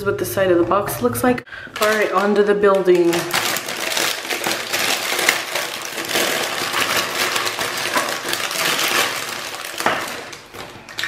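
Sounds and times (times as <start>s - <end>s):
plastic bag crinkling: 1.7s - 11.0s
hard plastic parts handled: 1.8s - 11.0s.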